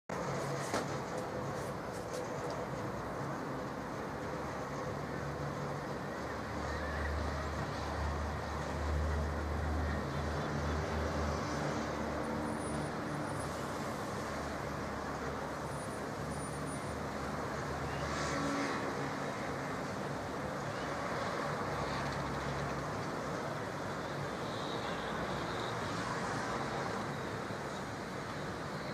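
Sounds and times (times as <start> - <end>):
road noise hiss: 0.1 - 28.9.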